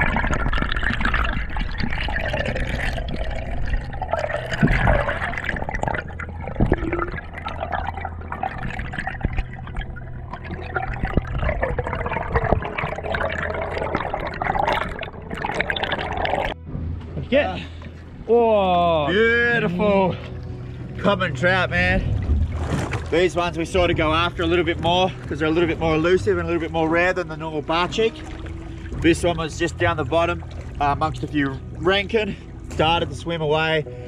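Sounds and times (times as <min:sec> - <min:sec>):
water rushing and gurgling: 0:00.0 - 0:16.6, 0:17.2 - 0:34.0.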